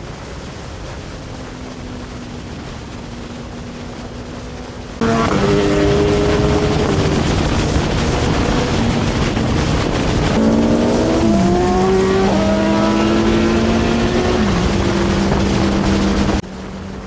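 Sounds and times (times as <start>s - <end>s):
road noise: 0.0s - 17.0s
wind rush: 0.0s - 17.0s
motorcycle engine accelerating: 3.0s - 17.0s.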